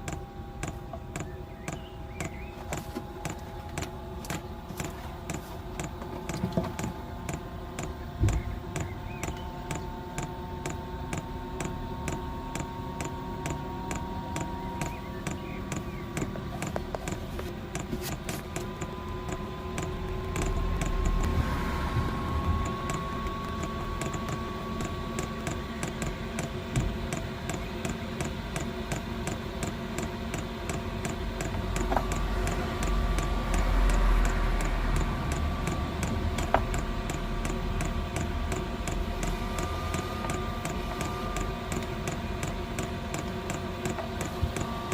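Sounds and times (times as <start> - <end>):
blower fan whine: 0.0 - 44.9
fuel pump ticking: 0.0 - 44.9.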